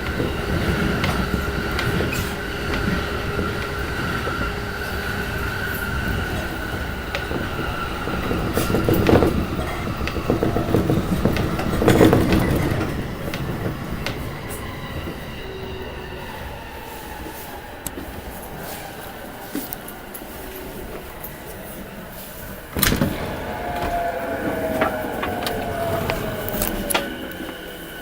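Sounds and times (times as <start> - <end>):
train wheels rumbling and rattling: 0.0 - 28.0.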